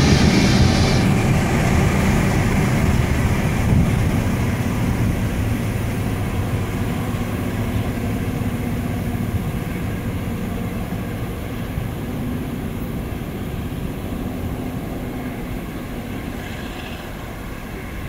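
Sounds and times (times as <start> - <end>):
diesel locomotive rumbling: 0.0 - 18.0.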